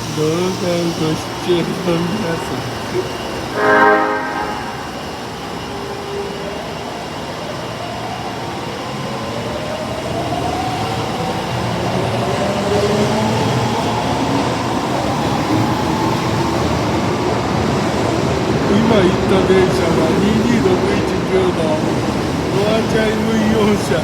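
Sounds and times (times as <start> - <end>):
rumble of train wheels: 0.0 - 24.0
subway train motors whining: 0.0 - 24.0.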